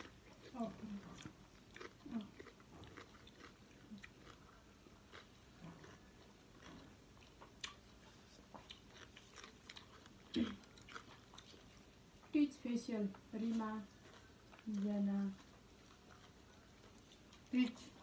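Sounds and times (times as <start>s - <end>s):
chewing food close-up: 0.0s - 18.0s.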